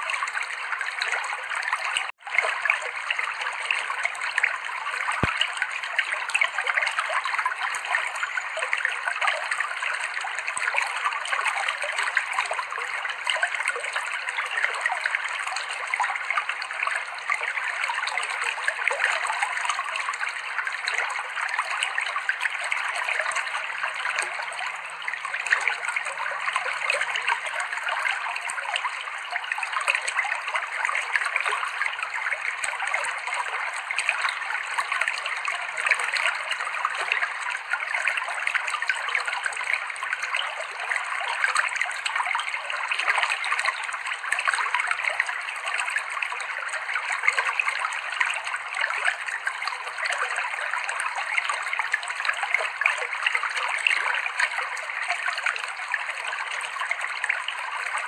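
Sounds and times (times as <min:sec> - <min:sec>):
stream water babbling over rocks: 0:00.0 - 0:58.0.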